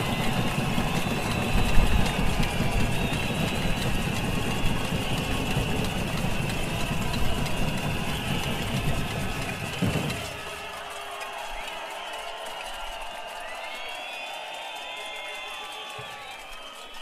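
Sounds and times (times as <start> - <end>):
protest crowd drumming: 0.0 - 17.0.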